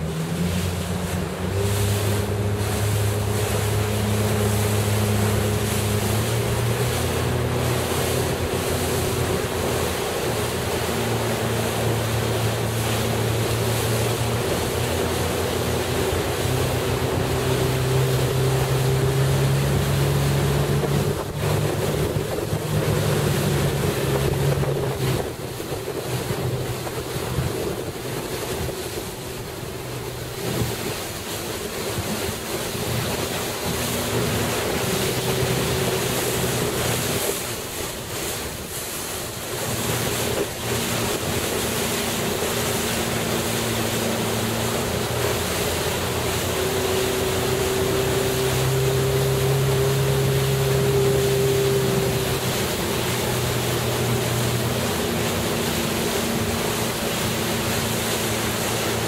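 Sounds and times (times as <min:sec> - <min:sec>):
motorboat engine running: 0:00.0 - 0:59.0
water splashing: 0:00.0 - 0:59.0
wind on microphone: 0:00.0 - 0:59.0.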